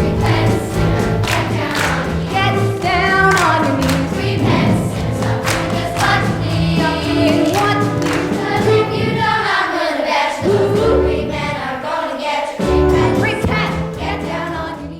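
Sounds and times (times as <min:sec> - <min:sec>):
group singing show tune: 0:00.0 - 0:14.9.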